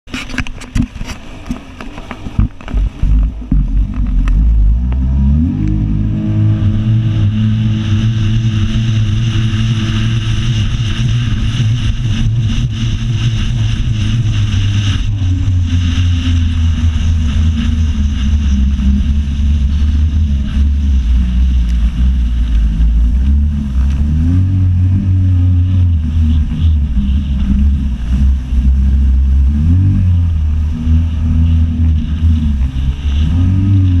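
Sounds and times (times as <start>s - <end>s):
jet ski engine revving: 0.1s - 34.0s.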